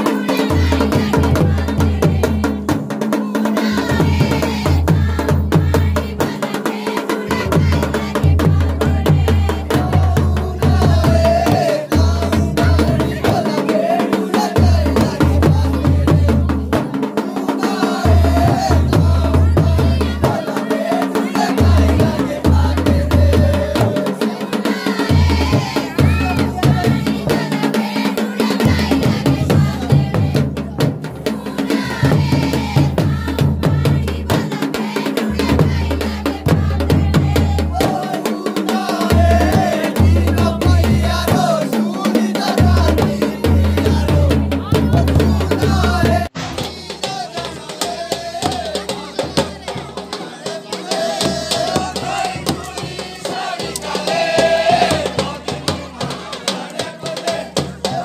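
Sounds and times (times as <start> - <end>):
large drum beating: 0.0 - 58.0
women singing in chorus: 0.0 - 58.0.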